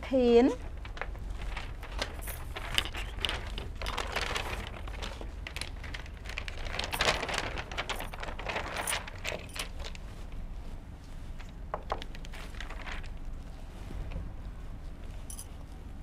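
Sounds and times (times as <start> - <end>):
paper rustling and crinkling: 0.5 - 16.0.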